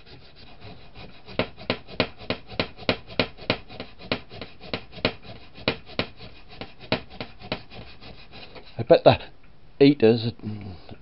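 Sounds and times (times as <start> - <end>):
sandpaper rasping: 0.0 - 8.8.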